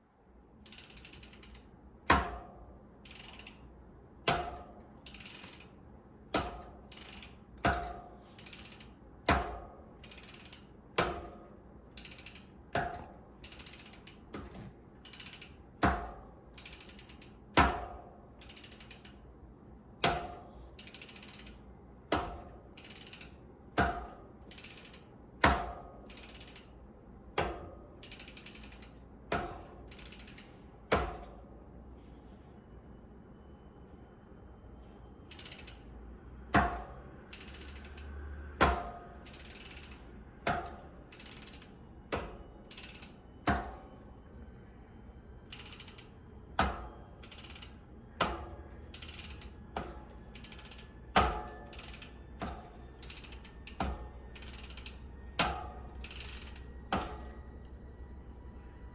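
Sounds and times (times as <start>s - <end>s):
bicycle freehub ratchet ticking: 0.5s - 31.6s, 35.1s - 44.1s, 45.1s - 58.3s.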